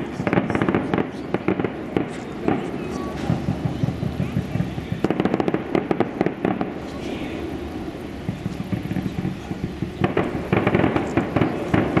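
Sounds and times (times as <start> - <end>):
fireworks bangs and crackling: 0.0 - 12.0
fireworks rumble: 0.0 - 12.0.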